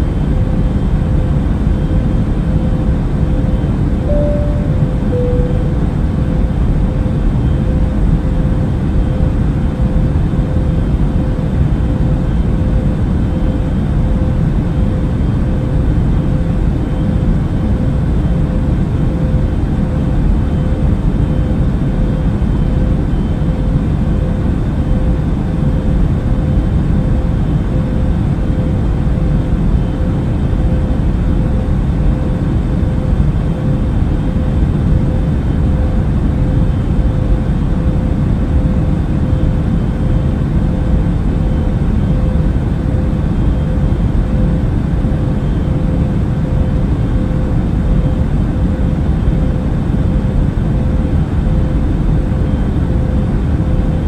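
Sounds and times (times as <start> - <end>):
airplane cabin roar: 0.0 - 54.0
mid-pitched hum: 0.0 - 54.0.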